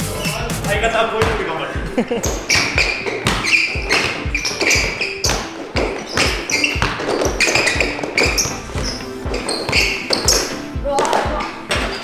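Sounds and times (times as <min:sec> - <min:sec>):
background music: 0:00.0 - 0:12.0
basketball bouncing on court: 0:01.2 - 0:01.4, 0:02.2 - 0:12.0
sneaker squeaks: 0:02.2 - 0:12.0.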